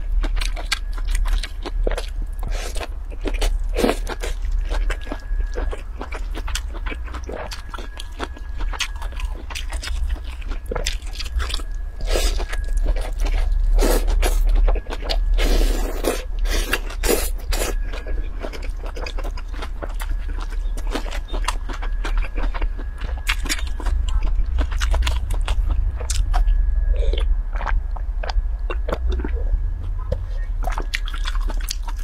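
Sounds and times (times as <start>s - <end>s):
chewing and crunching: 0.0s - 32.0s
steady low hum: 0.0s - 32.0s.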